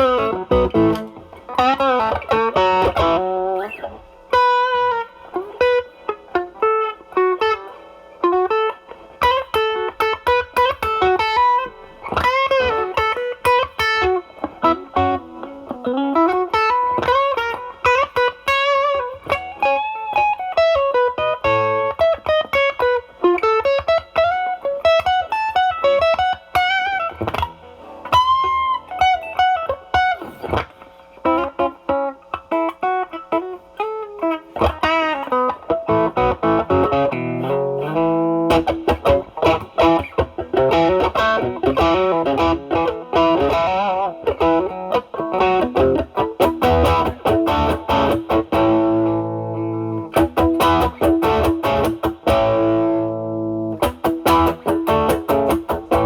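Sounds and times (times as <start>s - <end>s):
overdriven electric guitar lead: 0.0s - 56.0s.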